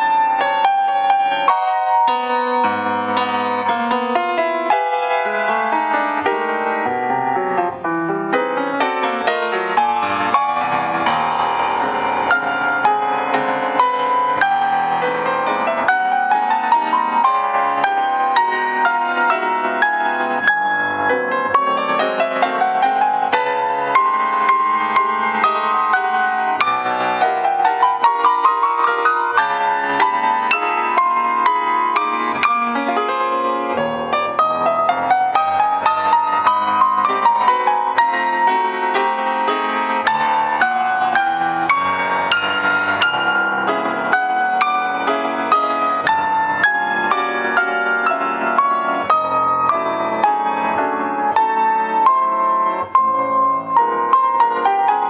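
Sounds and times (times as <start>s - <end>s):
classical piano solo: 0.0s - 55.0s.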